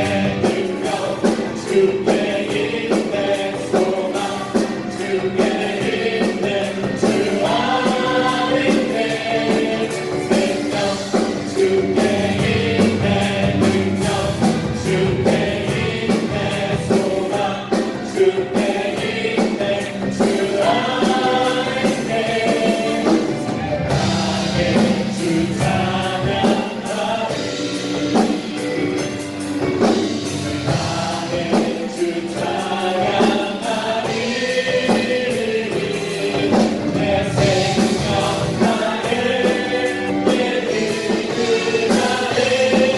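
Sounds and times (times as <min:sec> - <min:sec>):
band accompaniment: 0:00.0 - 0:42.9
group singing a gospel song: 0:00.0 - 0:42.9.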